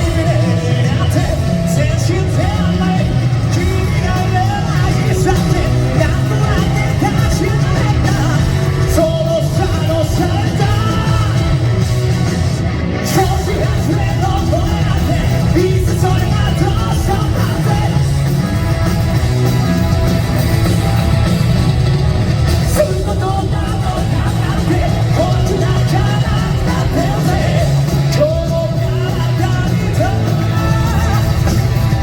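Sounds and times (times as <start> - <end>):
man singing: 0.0 - 11.8, 13.0 - 18.4, 22.6 - 32.0
electric guitar: 0.0 - 32.0
live rock band: 0.0 - 32.0.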